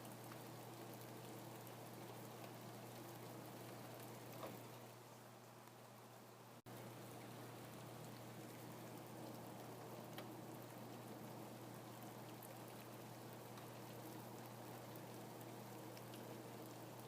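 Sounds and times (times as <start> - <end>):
rain patter: 0.0 - 17.0.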